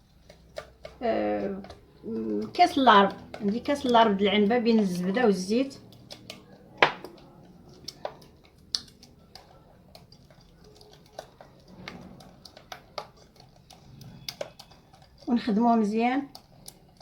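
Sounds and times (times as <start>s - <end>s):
utensil tapping mixing bowl: 0.0s - 17.0s.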